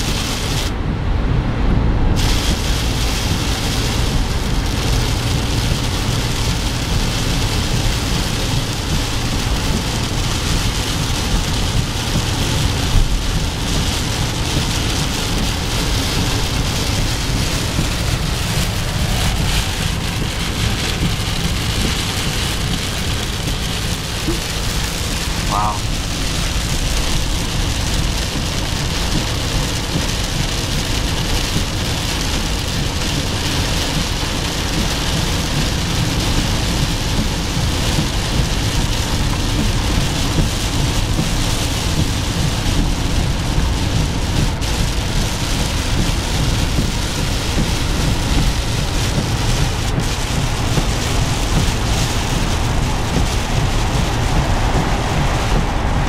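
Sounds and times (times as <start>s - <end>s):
heavy rain on car roof: 0.0s - 56.0s
tyre and road noise: 0.0s - 56.0s.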